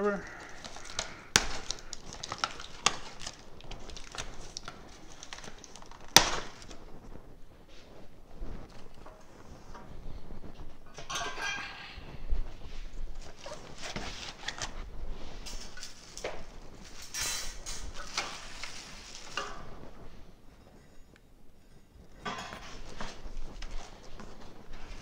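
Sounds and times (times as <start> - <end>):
cardboard and plastic bags rustling: 0.0 - 20.8, 22.0 - 25.0.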